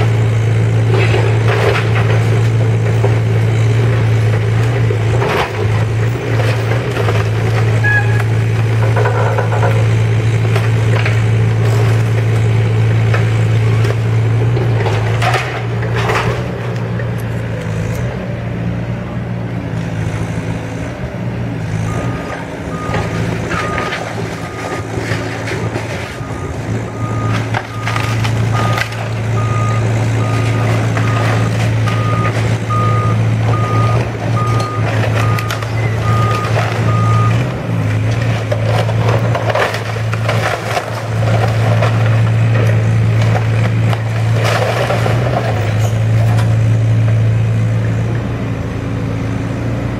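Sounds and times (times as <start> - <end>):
diesel engine running under load: 0.0 - 49.9
wood cracking and crunching: 0.7 - 16.9, 22.6 - 46.6.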